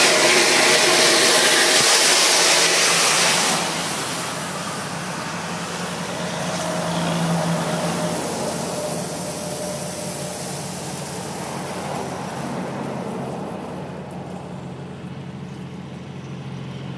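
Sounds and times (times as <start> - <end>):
rushing hiss: 0.0 - 14.7
engine hum: 0.0 - 16.9.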